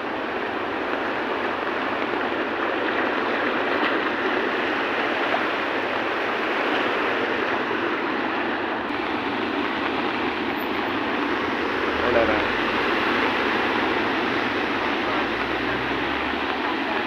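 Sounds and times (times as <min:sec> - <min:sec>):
floodwater rushing over concrete: 0:00.0 - 0:17.0.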